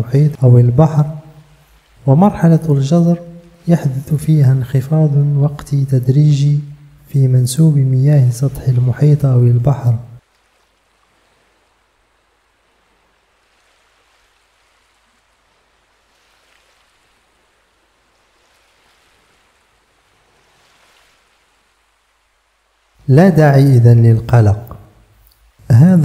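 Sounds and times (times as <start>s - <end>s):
small sea waves washing: 0.1s - 23.1s.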